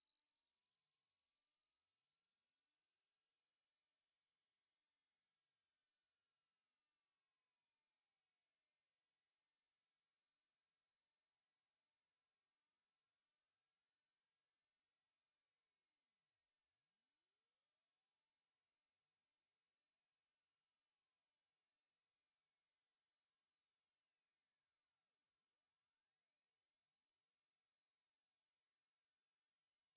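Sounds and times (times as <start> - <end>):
sine tone rising in pitch: 0.0 - 24.1.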